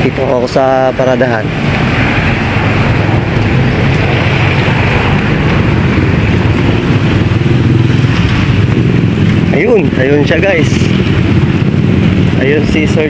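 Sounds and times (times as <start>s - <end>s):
vehicle engine running loudly: 0.0s - 13.0s.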